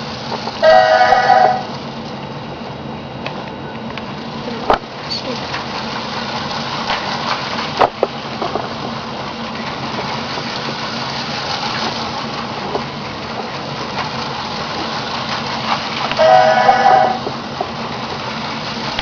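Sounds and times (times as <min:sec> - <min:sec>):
toy train motor whirring on track: 0:00.0 - 0:02.0, 0:04.2 - 0:19.0.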